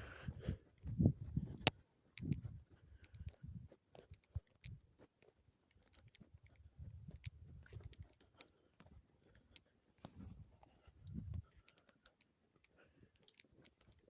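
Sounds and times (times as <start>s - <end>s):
faint footsteps on ground: 0.0s - 12.0s
small clicks and crackles: 0.0s - 14.0s.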